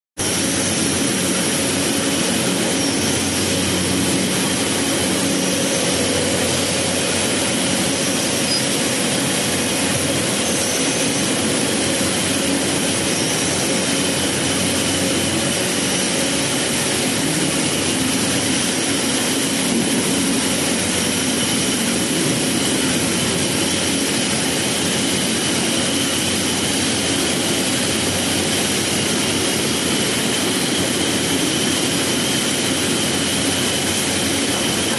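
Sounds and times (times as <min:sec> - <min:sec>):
machinery hiss: 0:00.2 - 0:34.9
machinery hums: 0:00.2 - 0:34.9.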